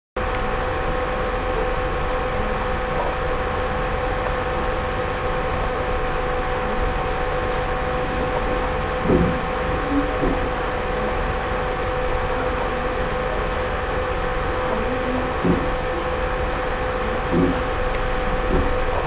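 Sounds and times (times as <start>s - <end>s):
electrical hum: 0.2s - 19.0s.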